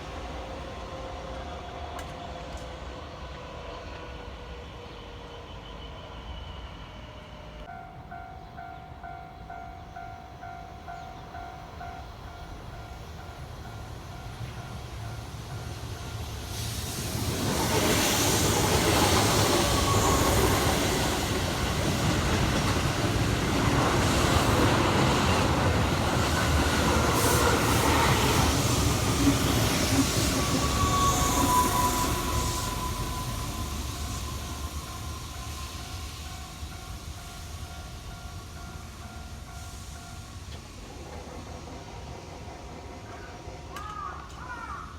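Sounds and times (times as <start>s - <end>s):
train wheel squeal: 0.0s - 10.1s, 12.7s - 44.0s
electric train passing: 0.0s - 44.8s.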